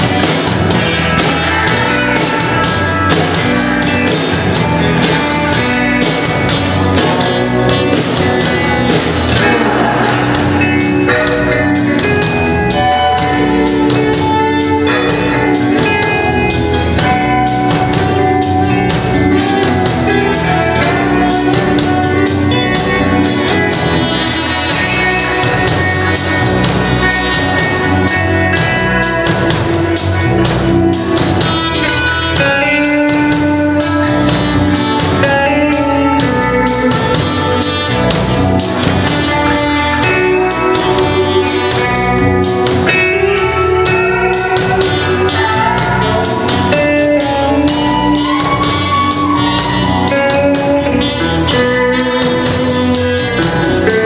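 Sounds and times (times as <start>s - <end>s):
live band playing instrumental: 0.0s - 54.0s
saxophone: 0.0s - 54.0s.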